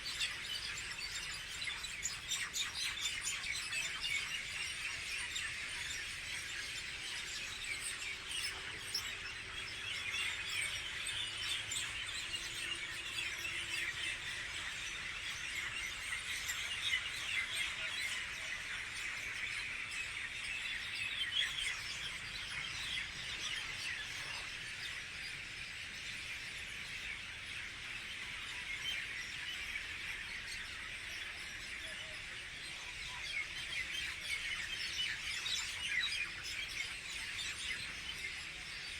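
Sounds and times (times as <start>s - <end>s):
large flock of birds chirping: 0.0s - 38.9s.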